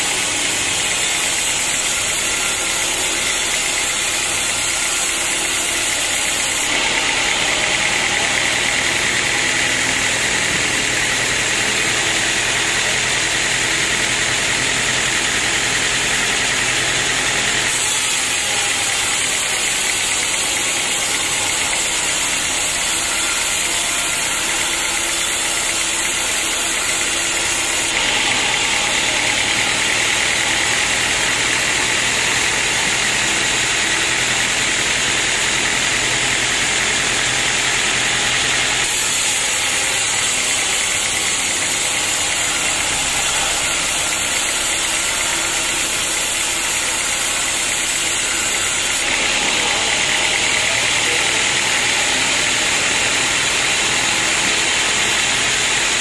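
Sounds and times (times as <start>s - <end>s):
band saw cutting log: 0.0s - 56.0s
drive motor: 0.0s - 56.0s.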